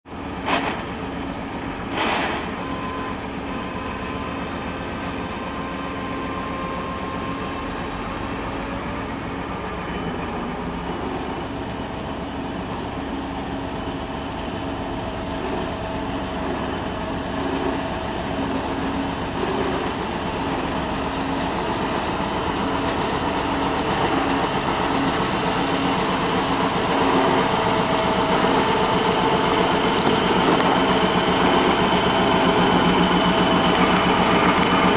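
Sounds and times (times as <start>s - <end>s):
vehicle engine running: 0.6s - 34.9s.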